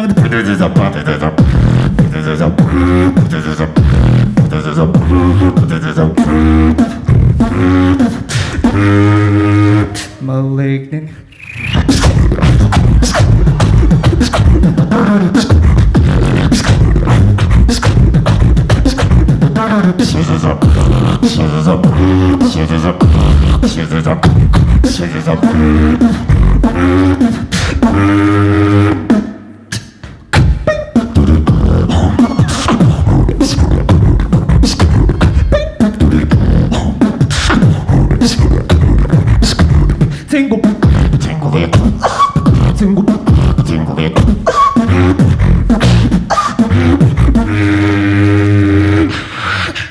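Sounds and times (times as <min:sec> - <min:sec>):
beatboxing: 0:00.0 - 0:49.9.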